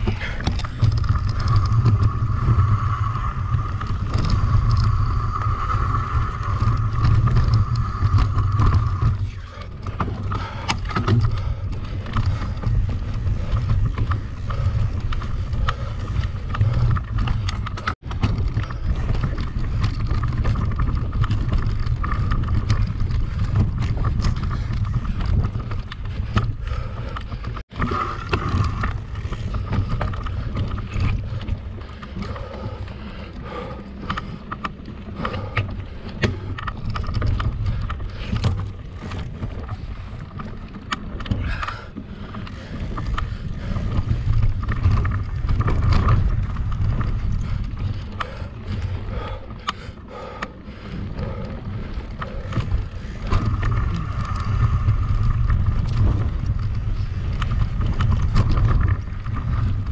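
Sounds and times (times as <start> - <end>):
wind on microphone: 0.0 - 32.8, 33.4 - 59.9
bike tyre and trail noise: 0.0 - 59.9
steady whirring: 0.0 - 59.9.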